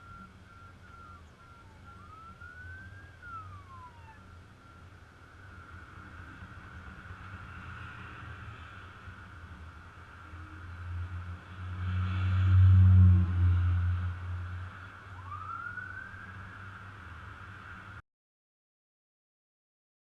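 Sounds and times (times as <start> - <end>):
diesel engines rumbling: 0.0 - 17.9.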